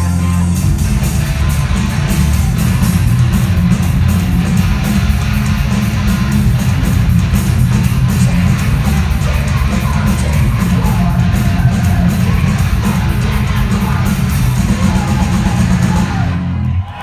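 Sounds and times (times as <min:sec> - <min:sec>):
heavy metal band playing: 0:00.0 - 0:17.0.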